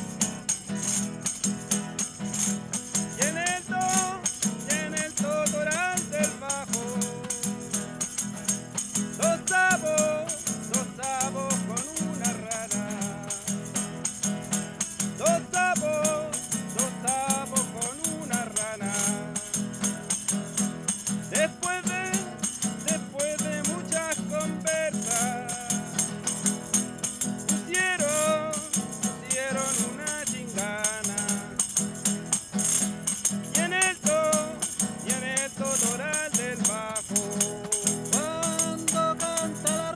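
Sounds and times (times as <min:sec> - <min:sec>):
wooden percussion box rattling: 0:00.0 - 0:39.9
man singing: 0:03.0 - 0:14.1, 0:14.7 - 0:20.3, 0:20.9 - 0:39.9.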